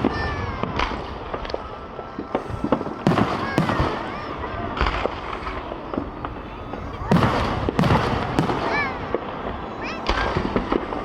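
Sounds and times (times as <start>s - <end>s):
crowd voices: 0.0s - 11.0s
fireworks exploding: 0.0s - 11.0s.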